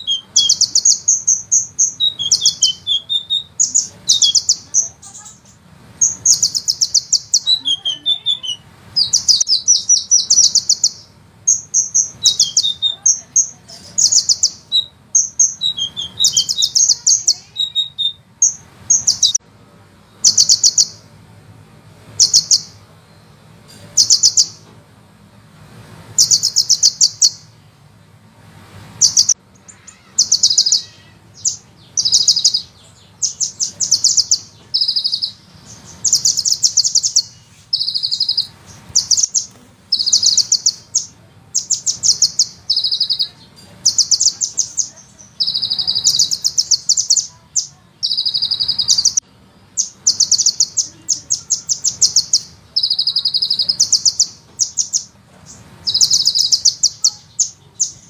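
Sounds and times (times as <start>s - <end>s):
bird trilling: 0.0s - 19.4s, 20.2s - 21.0s, 22.2s - 22.8s, 23.9s - 24.6s, 26.2s - 27.5s, 29.0s - 49.2s, 49.8s - 58.0s.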